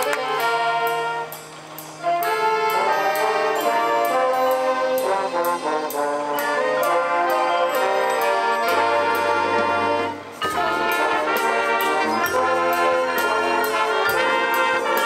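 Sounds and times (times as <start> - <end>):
light percussion beat: 0.0 - 15.0
marching band brass chords: 0.0 - 15.0.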